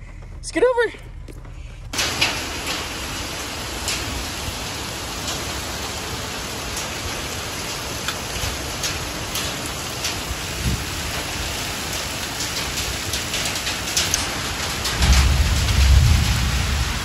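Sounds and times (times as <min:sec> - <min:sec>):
heavy rain on grass: 0:02.0 - 0:17.0
raindrops ticking: 0:02.0 - 0:17.0.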